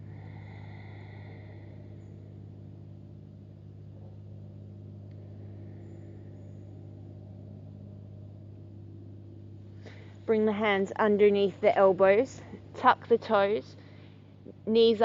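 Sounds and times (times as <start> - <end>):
low drone: 0.0 - 12.6.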